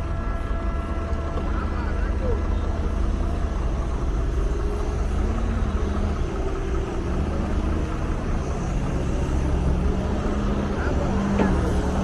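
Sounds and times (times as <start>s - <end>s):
road traffic engines rumbling: 0.0s - 12.0s.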